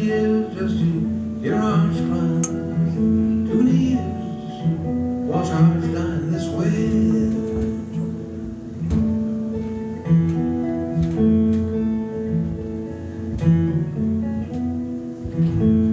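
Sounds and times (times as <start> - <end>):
acoustic guitar picking: 0.0 - 15.9.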